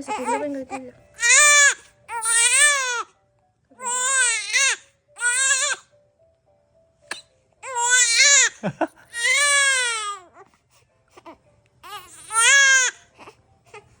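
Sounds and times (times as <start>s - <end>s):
baby crying: 0.0s - 3.1s, 3.8s - 5.9s, 7.1s - 10.5s, 11.2s - 13.9s.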